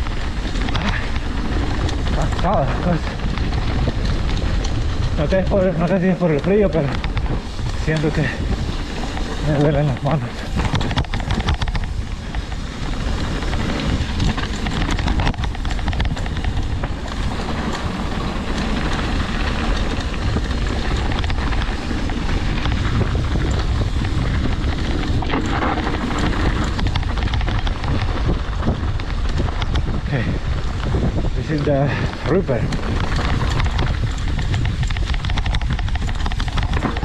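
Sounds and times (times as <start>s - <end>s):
bike clicks and knocks: 0.0s - 37.0s
wind rushing over microphone: 0.0s - 37.0s.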